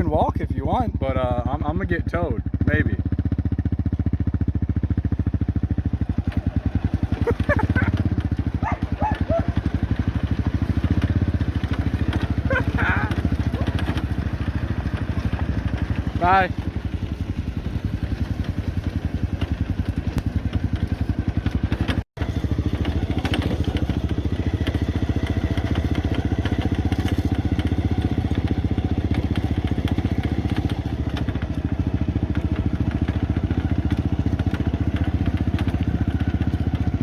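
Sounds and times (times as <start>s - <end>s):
small engine puttering: 0.0s - 37.0s.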